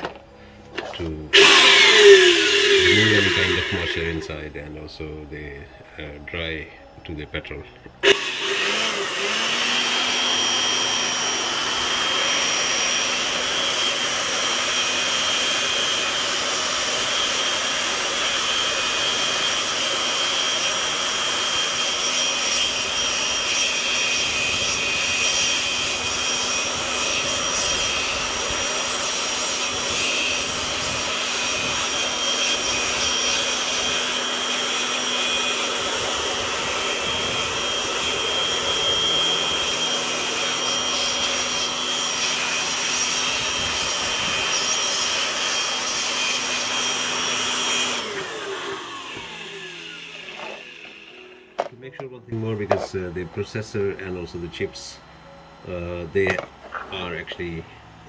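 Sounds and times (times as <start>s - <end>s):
air blower whining: 0.0s - 7.3s, 7.9s - 58.0s.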